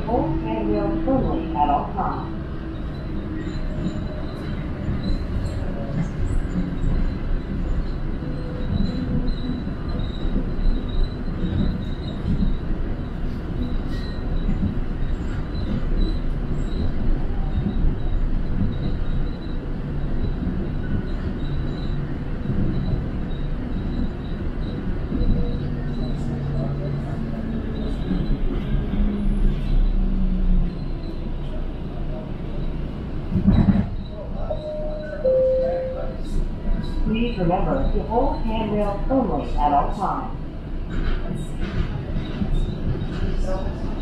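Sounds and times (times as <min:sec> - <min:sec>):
train cabin rumble: 0:00.0 - 0:44.0.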